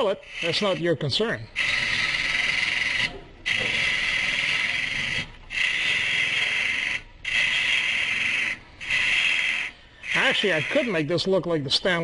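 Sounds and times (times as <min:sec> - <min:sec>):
lathe tool shaving hiss: 0:00.0 - 0:00.9, 0:01.5 - 0:11.2.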